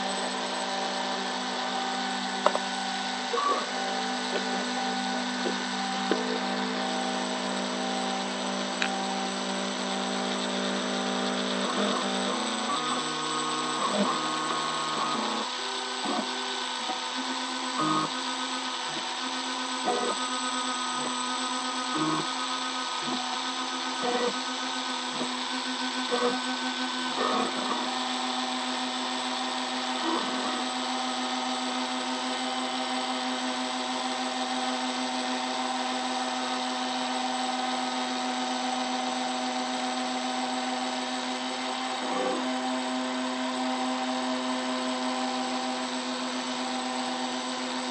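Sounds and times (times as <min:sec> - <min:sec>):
router spindle whining: 0:00.0 - 0:47.9.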